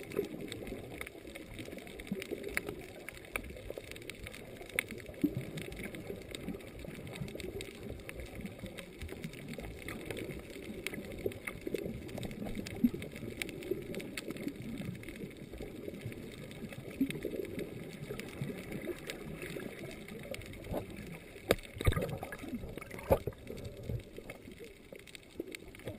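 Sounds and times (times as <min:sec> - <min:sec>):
faint underwater clicks: 0:00.0 - 0:25.9
muffled underwater rush: 0:00.0 - 0:25.9.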